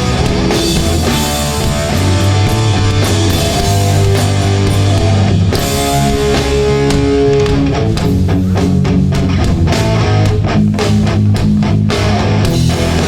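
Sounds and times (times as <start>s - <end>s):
drum hits: 0.0s - 13.0s
punk band playing live: 0.0s - 13.0s.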